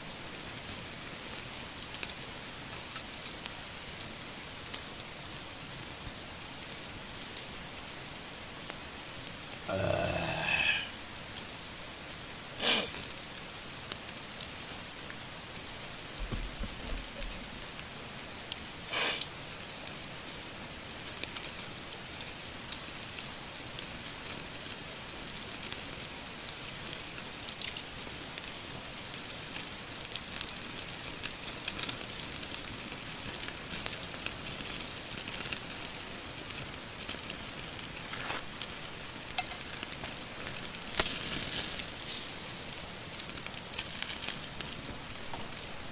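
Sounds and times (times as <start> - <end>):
fire crackles and spits: 0.0 - 45.9
meat sizzling on grill: 0.0 - 45.9.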